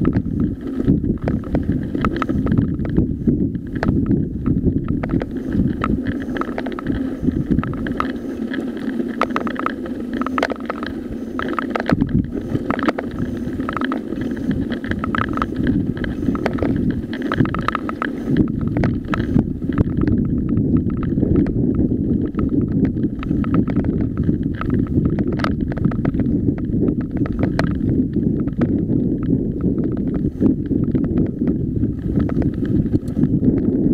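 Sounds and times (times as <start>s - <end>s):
stones and bike rattling: 0.0s - 33.9s
tyres rolling on gravel: 0.0s - 33.9s
wind on microphone: 0.0s - 33.9s.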